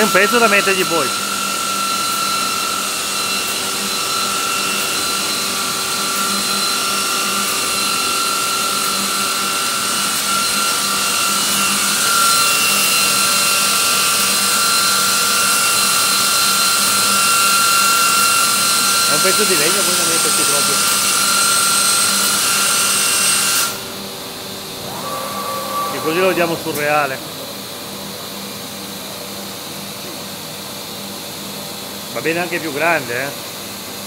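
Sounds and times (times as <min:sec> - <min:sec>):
router spindle high whine: 0:00.0 - 0:28.5.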